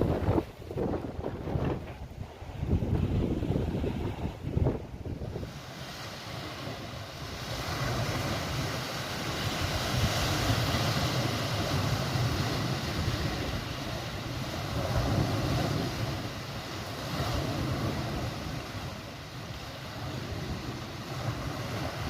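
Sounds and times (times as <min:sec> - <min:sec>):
surf rushing: 0:00.0 - 0:22.0
wind: 0:00.0 - 0:22.0.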